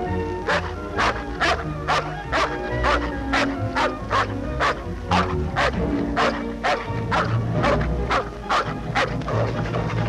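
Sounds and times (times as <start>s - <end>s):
background music with low notes: 0.0s - 10.0s
dog barking: 0.4s - 9.6s.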